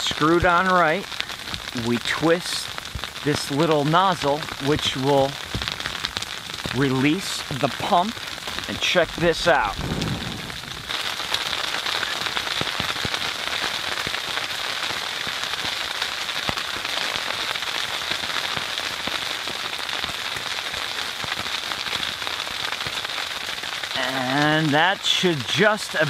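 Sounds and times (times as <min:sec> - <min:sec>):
icy rain pattering: 0:00.0 - 0:26.0.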